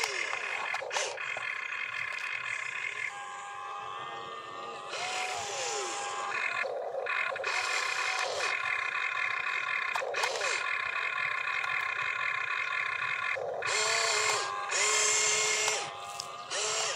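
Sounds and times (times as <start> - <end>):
electric motors whining: 0.0 - 16.9.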